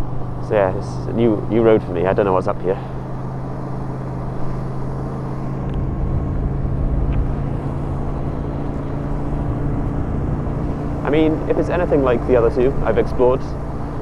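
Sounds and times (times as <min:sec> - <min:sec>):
motorcycle engine running: 0:00.0 - 0:14.0
road rumble: 0:00.0 - 0:14.0
wind: 0:00.0 - 0:14.0.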